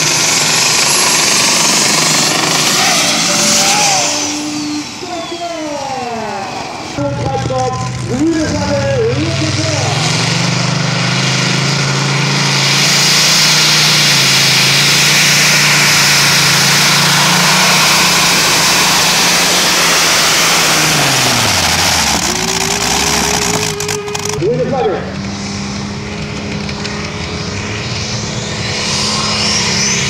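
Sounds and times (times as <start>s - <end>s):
tractor engine running flat out: 0.0s - 30.0s.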